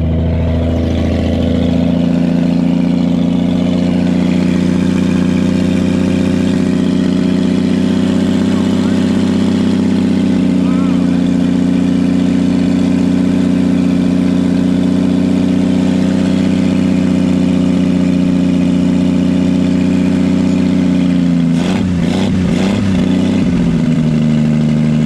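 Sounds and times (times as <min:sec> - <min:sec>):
old truck engine running: 0:00.0 - 0:25.0.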